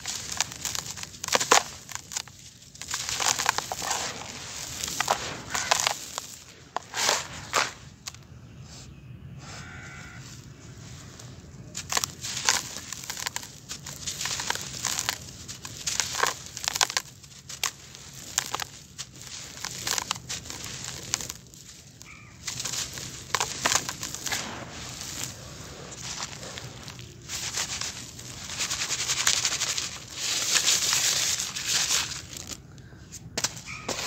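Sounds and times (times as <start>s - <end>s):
sand and cement powder crackling: 0.0s - 34.0s.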